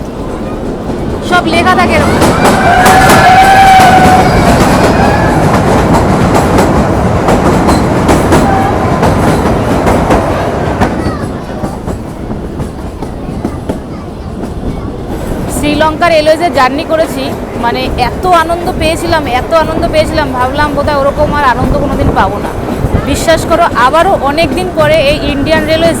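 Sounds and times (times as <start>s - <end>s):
clacks over rail joints: 0.0s - 26.0s
train wheels rumbling: 0.0s - 26.0s.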